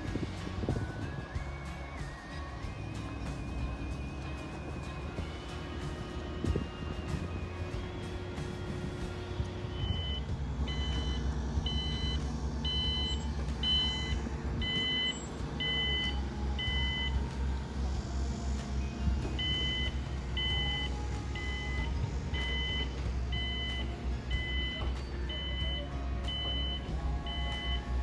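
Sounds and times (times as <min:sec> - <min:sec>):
reversing alarm beeping: 0:00.0 - 0:18.1, 0:18.8 - 0:28.0
heavy diesel machinery rumble: 0:00.0 - 0:28.0.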